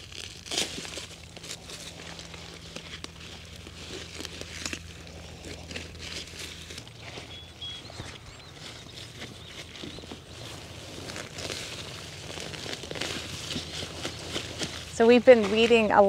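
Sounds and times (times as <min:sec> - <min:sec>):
steady low hum: 0:00.0 - 0:16.0
weeds rustling as pulled: 0:00.0 - 0:16.0.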